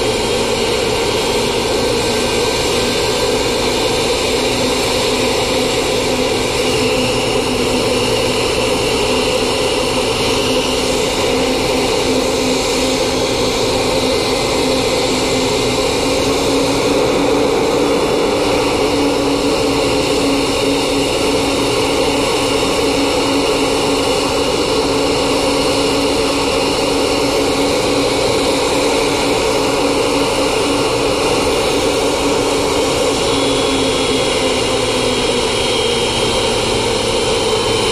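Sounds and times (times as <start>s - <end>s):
jet engines whining: 0.0s - 37.9s.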